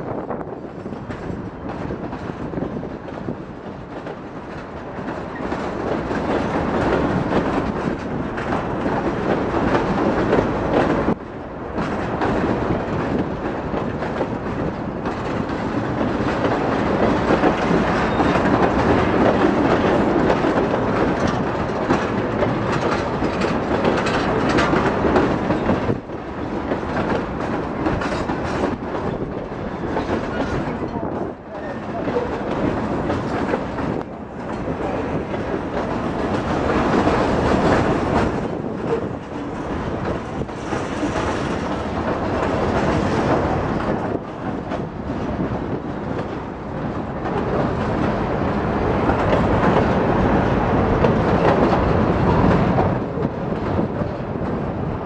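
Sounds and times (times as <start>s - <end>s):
freight train wheels clacking: 0.0s - 55.0s.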